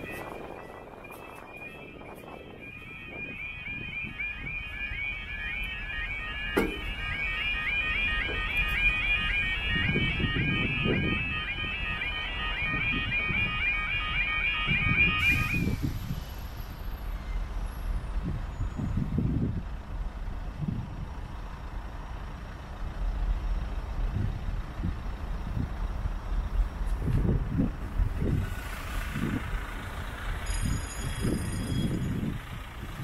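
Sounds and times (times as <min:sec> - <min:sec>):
wind buffeting microphone: 0:00.0 - 0:16.4, 0:18.1 - 0:21.2, 0:24.0 - 0:33.0
road traffic: 0:00.0 - 0:33.0.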